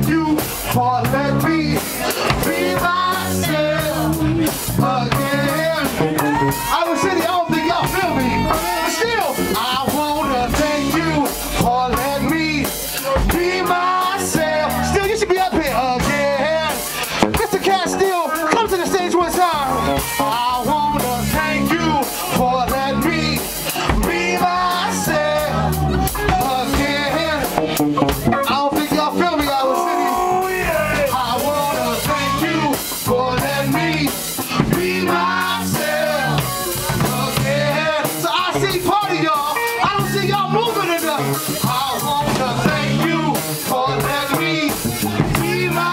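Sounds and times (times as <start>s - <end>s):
person singing into a microphone: 0.0s - 27.6s, 28.4s - 45.9s
drum kit: 0.0s - 45.9s
electric bass: 0.0s - 45.9s
electric guitar: 0.0s - 45.9s
live band playing: 0.0s - 45.9s.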